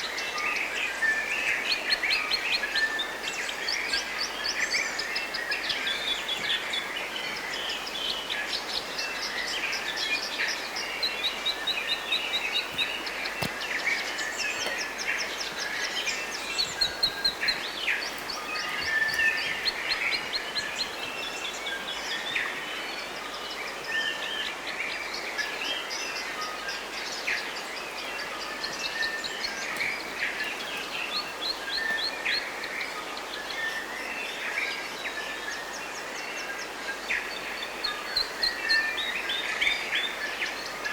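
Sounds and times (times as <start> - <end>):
faint steady hiss: 0.0 - 40.9
forest birds singing: 0.0 - 40.9.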